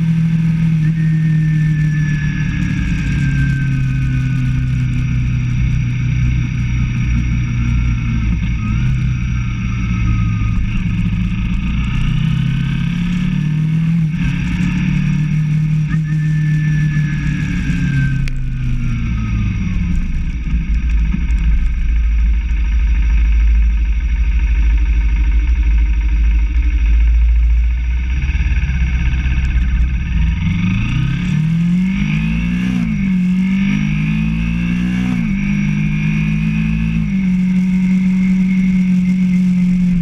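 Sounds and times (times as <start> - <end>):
low rumble: 0.0 - 40.0
motorcycle engine running: 0.0 - 40.0.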